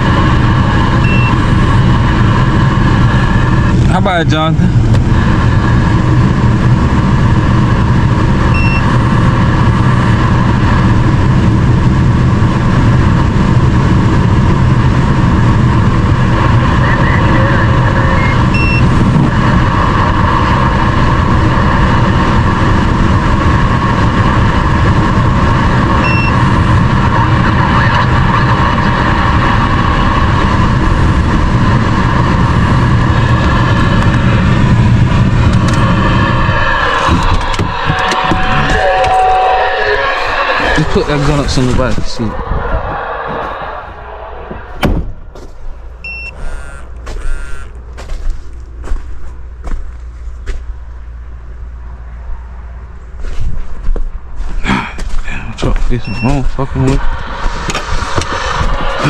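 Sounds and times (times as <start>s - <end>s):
road or rain noise: 0.0s - 59.0s
truck engine hum: 0.0s - 59.0s.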